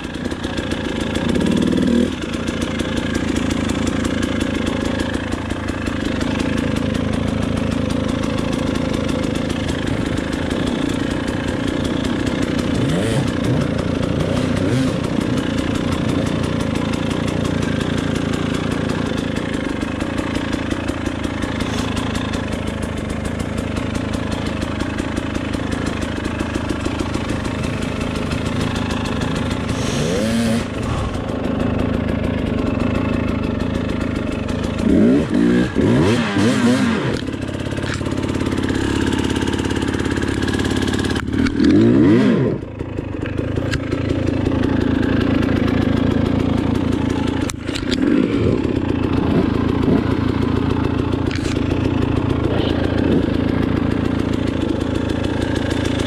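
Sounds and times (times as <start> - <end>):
dirt bike engine idling and revving: 0.0 - 56.0.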